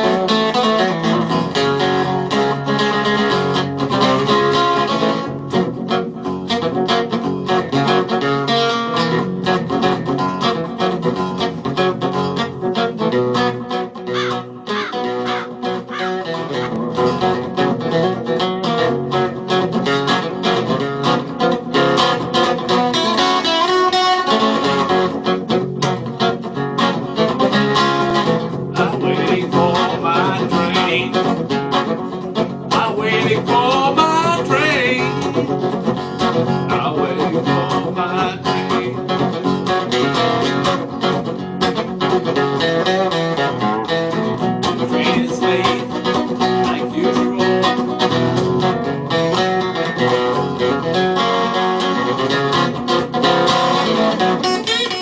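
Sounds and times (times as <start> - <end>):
acoustic blues guitar: 0.0 - 55.0.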